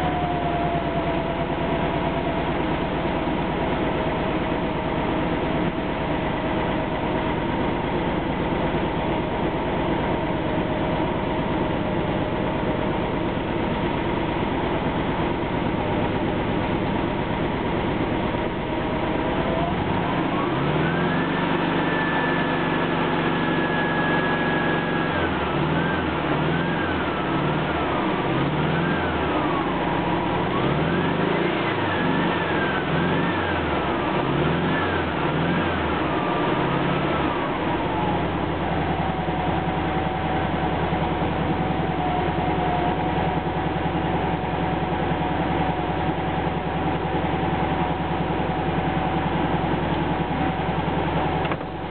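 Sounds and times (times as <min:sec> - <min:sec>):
car engine revving and idling: 0:00.0 - 0:51.9.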